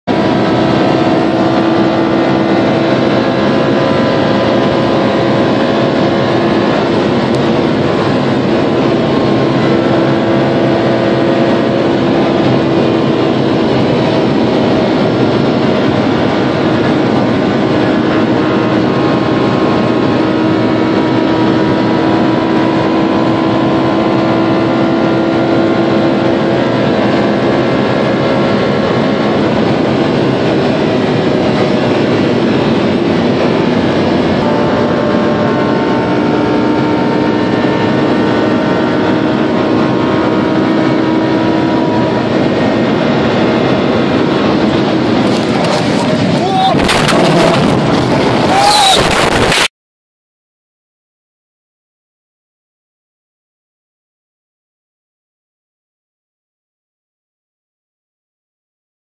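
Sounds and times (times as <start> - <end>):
car engine at high revs: 0.0 - 49.7
wind and tyre noise: 0.0 - 49.7.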